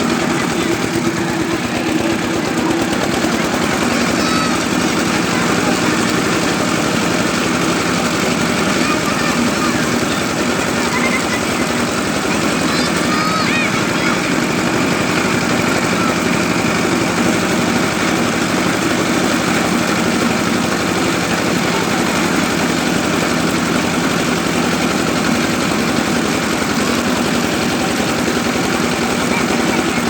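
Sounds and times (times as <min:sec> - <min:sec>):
motor running with rapid pulse: 0:00.0 - 0:30.0.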